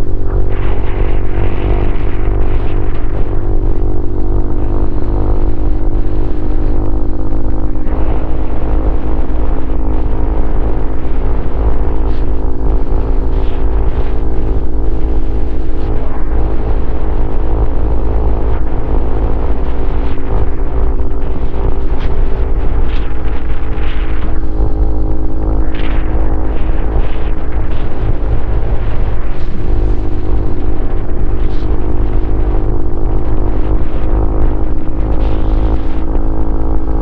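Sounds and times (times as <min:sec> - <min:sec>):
motorcycle engine running: 0:00.0 - 0:37.0
wind rumble on microphone: 0:00.0 - 0:37.0.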